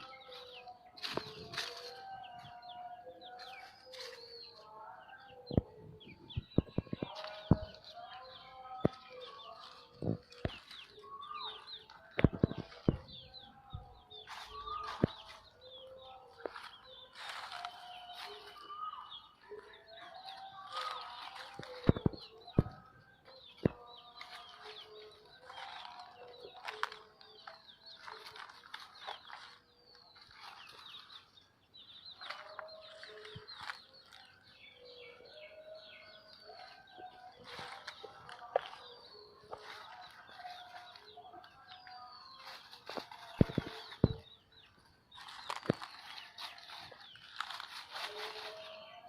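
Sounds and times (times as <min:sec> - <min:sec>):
chickens clucking: 0:00.0 - 0:49.0
small birds chirping: 0:00.0 - 0:49.0.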